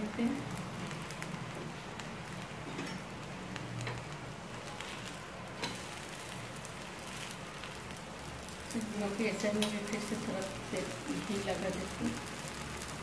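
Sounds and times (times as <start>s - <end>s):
pancake sizzling in a pan: 0.0s - 13.0s.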